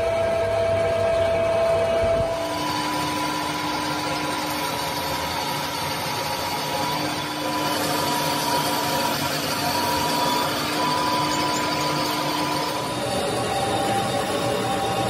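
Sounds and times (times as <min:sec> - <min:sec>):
metal lathe humming and whining: 0:00.0 - 0:15.0.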